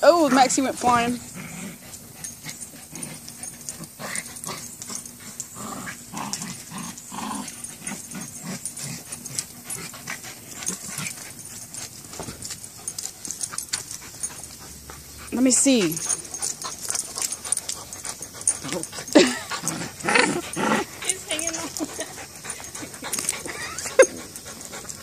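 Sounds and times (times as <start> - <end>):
dogs growling: 0.0 - 25.0
dogs scuffling with toy: 0.3 - 25.0.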